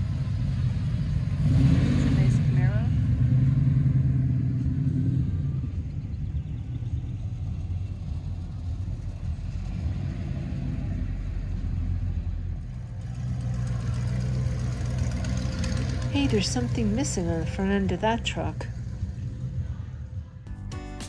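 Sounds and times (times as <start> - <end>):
car engines rumbling: 0.0 - 20.6.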